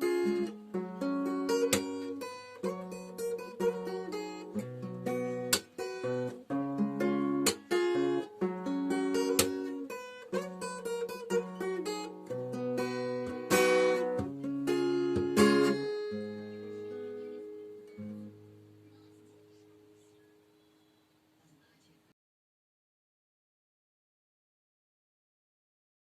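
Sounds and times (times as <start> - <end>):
acoustic guitar melody: 0.0 - 21.8.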